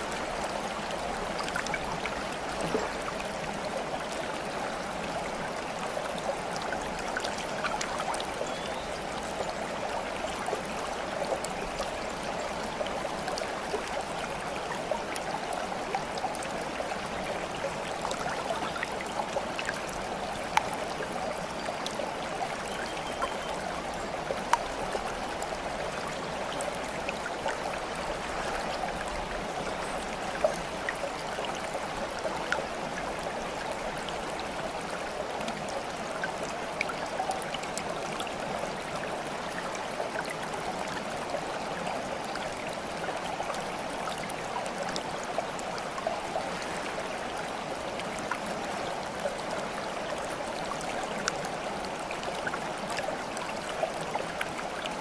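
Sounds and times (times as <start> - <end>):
small water splashes and drips: 0.0 - 55.0
water flowing in a stream: 0.0 - 55.0.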